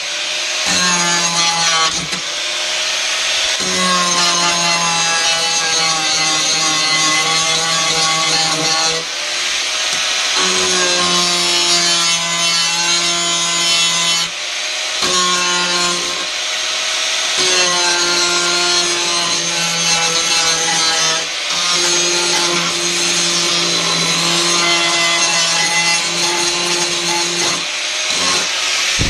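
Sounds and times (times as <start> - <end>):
angle grinder on sheet steel: 0.0 - 29.0.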